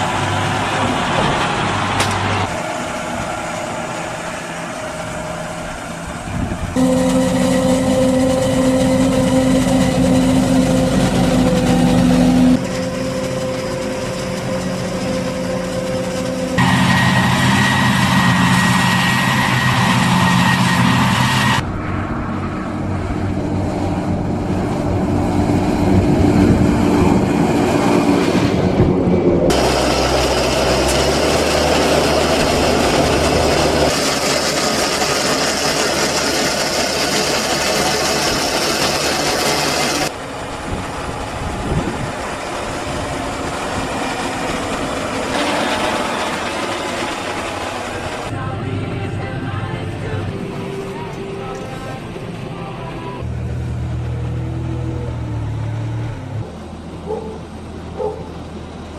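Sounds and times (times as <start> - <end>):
tractor engine running: 0.0 - 58.9.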